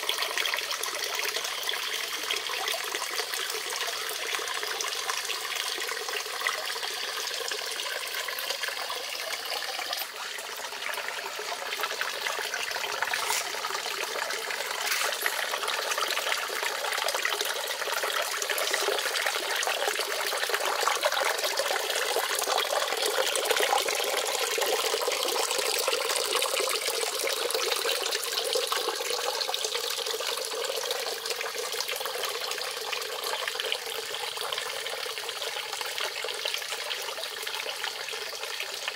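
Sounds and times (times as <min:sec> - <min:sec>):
fountain water trickling into pond: 0:00.0 - 0:38.9.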